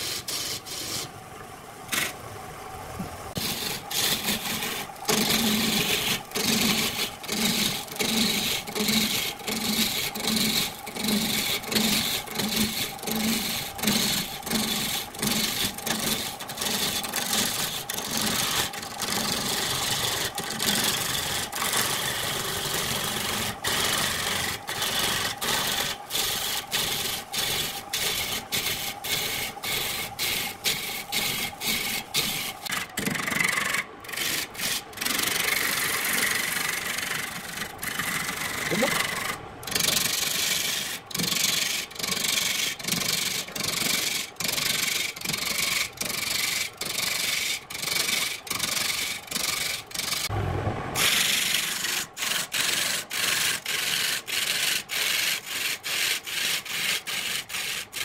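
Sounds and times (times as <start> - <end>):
turning tool scraping wood: 0.0 - 1.1, 1.9 - 2.2, 3.3 - 50.4, 51.0 - 58.0
lathe motor hum: 3.2 - 55.3.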